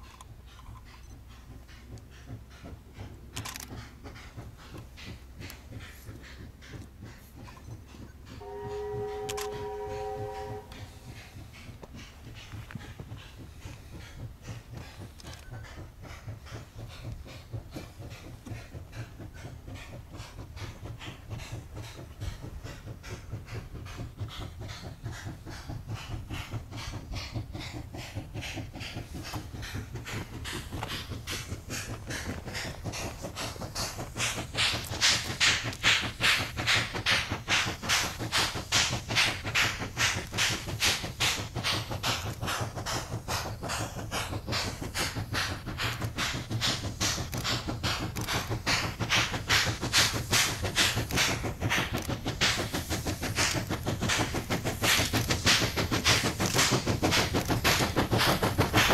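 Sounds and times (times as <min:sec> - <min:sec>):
steam locomotive exhaust chuffing: 0:00.0 - 0:58.9.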